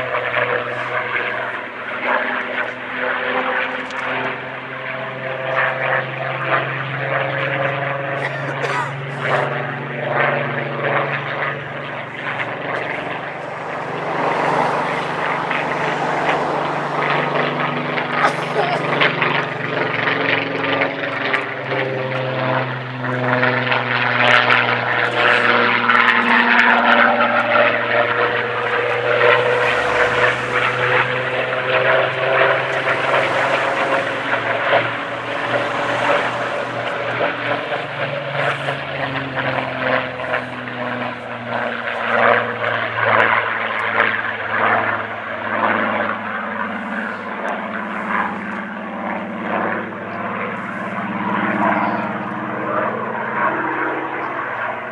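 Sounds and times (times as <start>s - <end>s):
propeller plane engine passing overhead: 0.0s - 54.9s.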